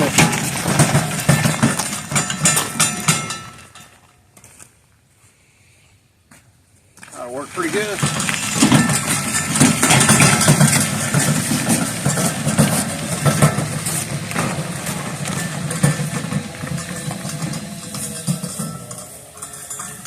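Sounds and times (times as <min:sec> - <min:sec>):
metal cart rumbling on wheels: 0:00.0 - 0:04.2, 0:07.0 - 0:20.0
metal frame clanking: 0:00.0 - 0:04.2, 0:07.2 - 0:20.0.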